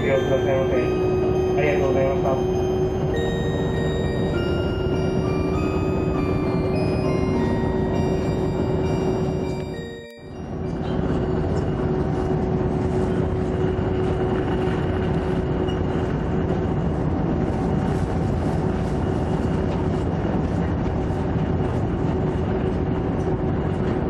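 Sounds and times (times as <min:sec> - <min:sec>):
ship engine hum: 0:00.0 - 0:24.0.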